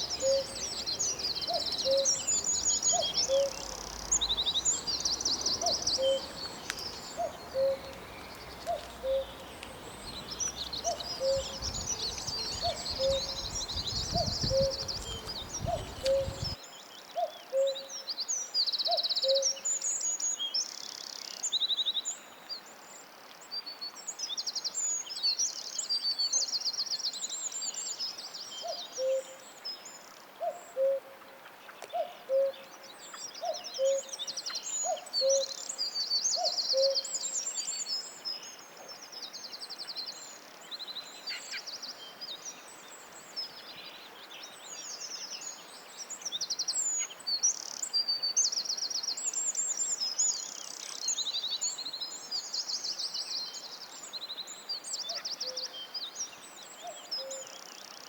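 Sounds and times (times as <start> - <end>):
forest songbirds singing: 0.0 - 58.0.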